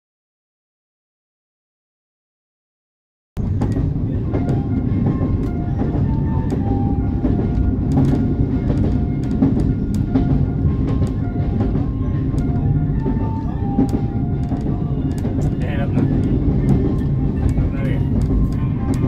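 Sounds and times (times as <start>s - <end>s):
clacks and rattles: 3.4s - 19.0s
train carriage rumble: 3.4s - 19.0s.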